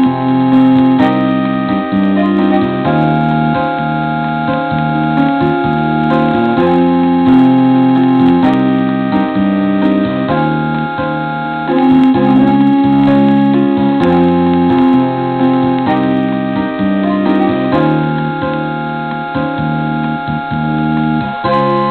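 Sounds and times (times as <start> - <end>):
electronic keyboard chords: 0.0 - 21.9.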